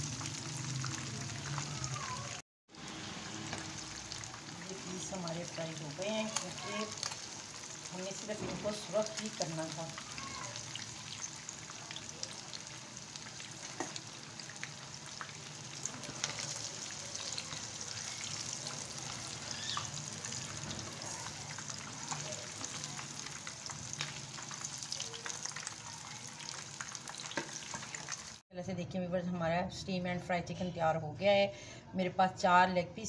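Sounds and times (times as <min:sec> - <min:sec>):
chicken deep-frying in oil: 0:00.0 - 0:28.4.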